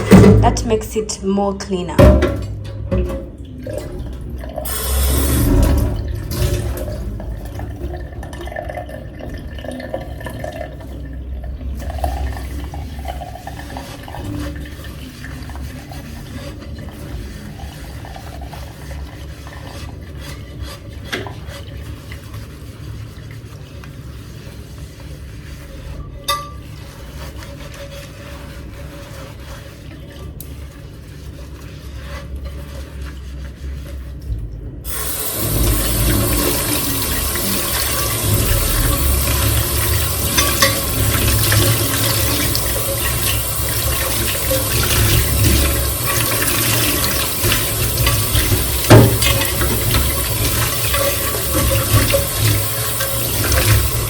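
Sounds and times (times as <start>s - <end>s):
tap water running into sink: 0.0s - 1.0s, 1.9s - 25.6s, 32.6s - 54.0s.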